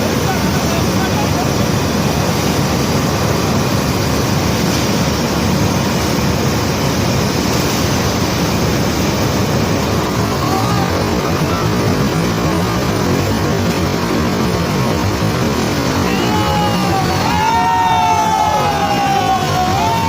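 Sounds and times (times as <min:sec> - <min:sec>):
conveyor belt rumbling: 0:00.0 - 0:20.0.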